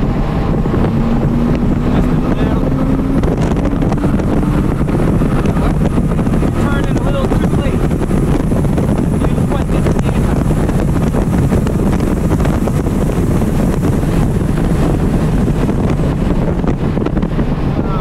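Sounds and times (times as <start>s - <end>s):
car engine revving high: 0.0s - 18.0s
wind and road rush: 0.0s - 18.0s.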